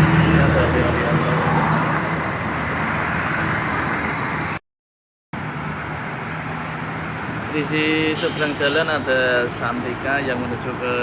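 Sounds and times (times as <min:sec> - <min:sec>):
passing vehicles: 0:00.0 - 0:04.6, 0:05.4 - 0:11.0.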